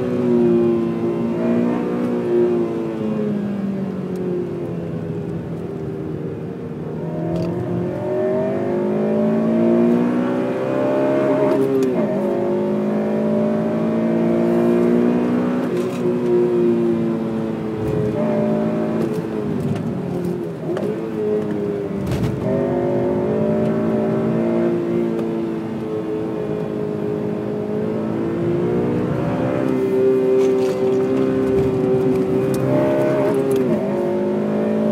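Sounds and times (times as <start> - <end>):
car engine revving hard: 0.0 - 3.4, 7.0 - 34.9.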